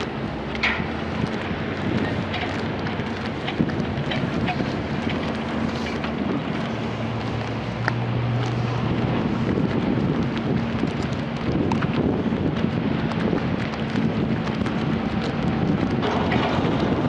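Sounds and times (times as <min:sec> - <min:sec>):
diesel engine running: 0:00.0 - 0:17.0
wind noise on microphone: 0:00.0 - 0:17.0.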